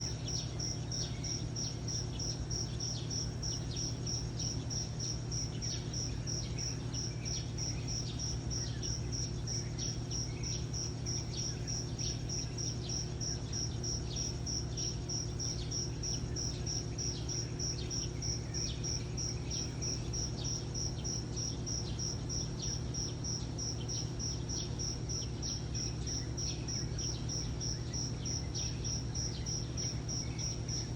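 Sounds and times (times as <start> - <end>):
cricket chirping: 0.0 - 30.9
low steady hum: 0.0 - 30.9.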